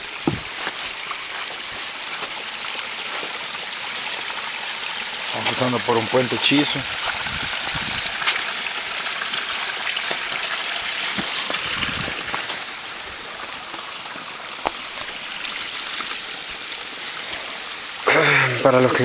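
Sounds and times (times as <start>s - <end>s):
stream running over stones: 0.0s - 19.0s.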